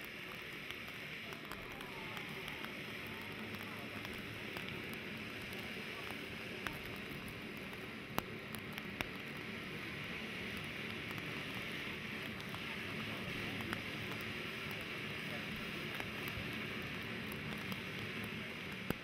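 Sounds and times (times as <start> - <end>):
firework cracks: 0.0 - 19.0
firework fountain hissing: 0.0 - 19.0.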